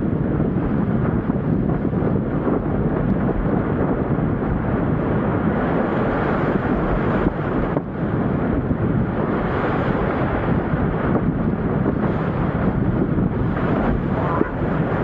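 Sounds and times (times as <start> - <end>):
wind blowing over microphone: 0.0 - 15.0.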